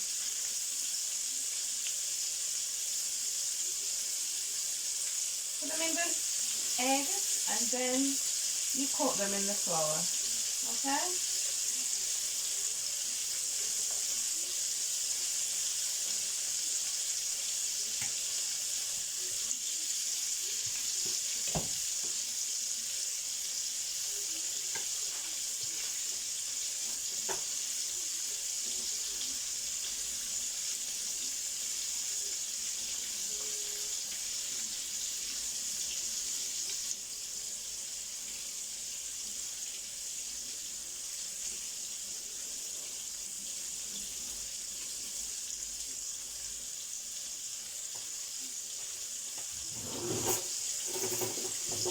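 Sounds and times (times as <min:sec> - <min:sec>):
chicken frying in hot oil: 0:00.0 - 0:51.9.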